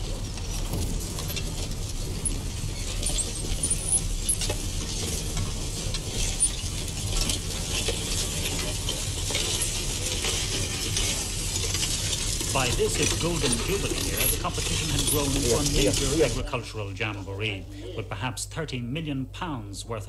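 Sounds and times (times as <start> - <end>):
plough clinking: 0.0 - 16.5
old film soundtrack hum and crackle: 0.0 - 20.0.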